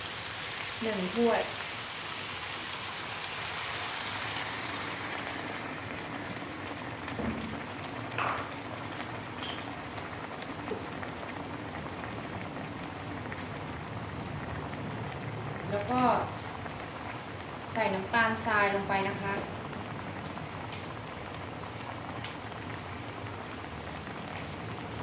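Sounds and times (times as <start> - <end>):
bubbling simmer: 0.0 - 25.0
water sizzling in hot pan: 0.0 - 25.0.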